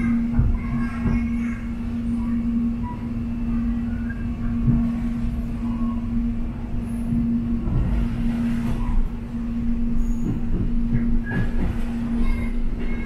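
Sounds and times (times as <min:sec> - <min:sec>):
train low hum: 0:00.0 - 0:13.0
wheels rumbling on track: 0:00.0 - 0:13.0.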